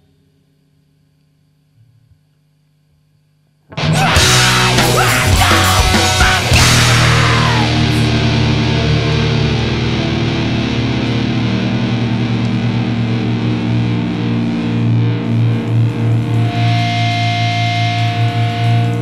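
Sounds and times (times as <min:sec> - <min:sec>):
distorted electric guitar chords: 0:03.7 - 0:19.0
heavy metal music: 0:03.7 - 0:19.0.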